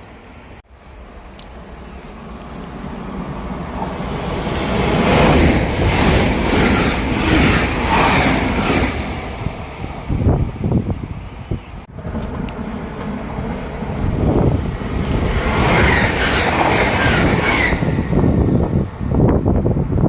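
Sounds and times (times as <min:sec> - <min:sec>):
train wheels rumbling on rail: 0:00.7 - 0:20.0.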